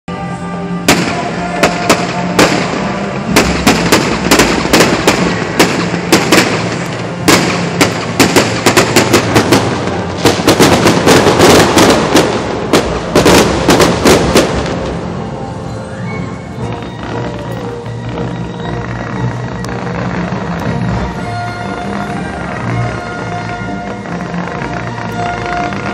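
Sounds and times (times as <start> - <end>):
fireworks bangs and crackles: 0.1 - 25.9
music playing: 0.1 - 25.9.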